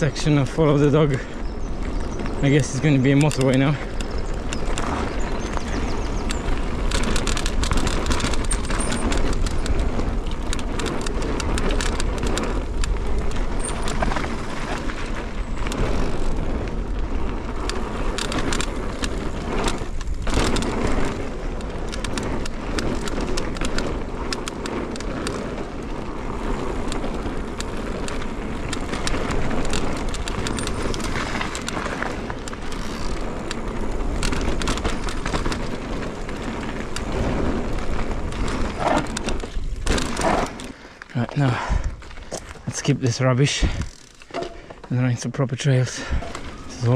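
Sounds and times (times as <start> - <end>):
bike rattles and clicks: 0.0 - 46.9
tyre and trail noise rushing: 0.0 - 46.9.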